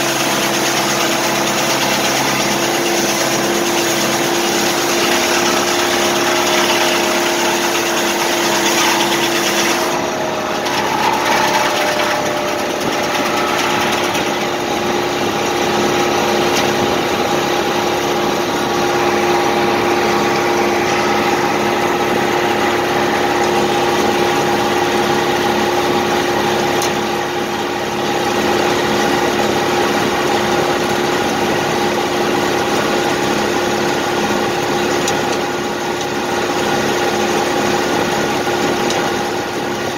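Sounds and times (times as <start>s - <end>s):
engine running steadily: 0.0s - 39.9s
saw blade whine: 0.0s - 39.9s.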